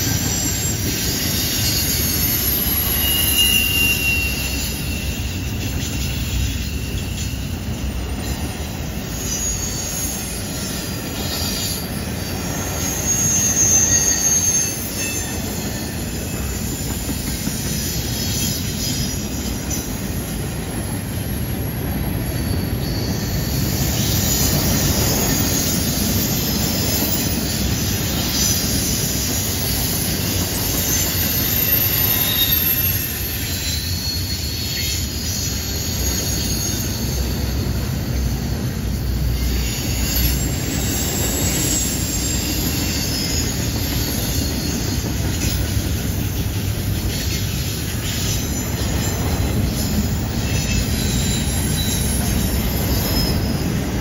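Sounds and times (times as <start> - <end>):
steel wheels rumbling on rails: 0.0 - 54.0
wheel flange squeal: 0.0 - 54.0.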